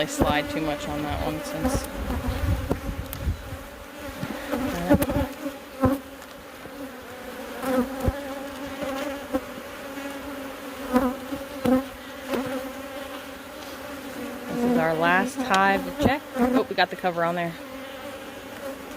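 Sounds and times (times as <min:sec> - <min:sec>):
bees buzzing: 0:00.0 - 0:18.9.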